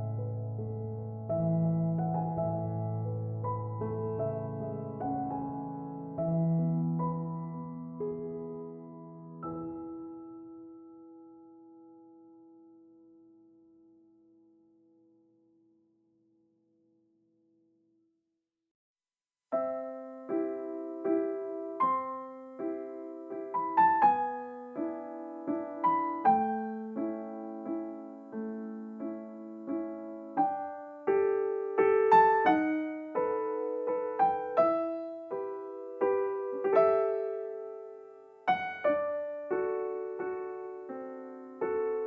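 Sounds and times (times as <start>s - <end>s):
gentle piano piece: 0.0s - 16.1s, 19.5s - 42.0s.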